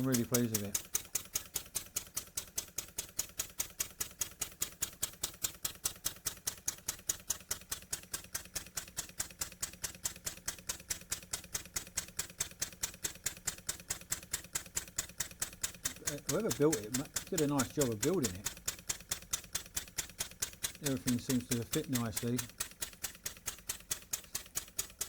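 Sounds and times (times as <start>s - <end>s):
model steam engine clicking: 0.0s - 25.0s.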